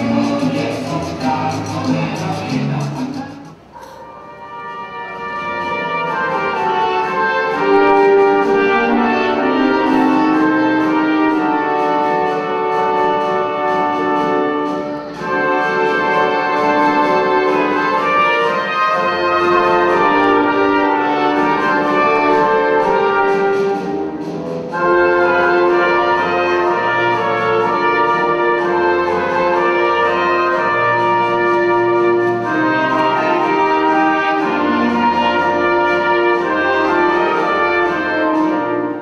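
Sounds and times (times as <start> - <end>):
brass-led orchestral anthem: 0.0 - 39.0.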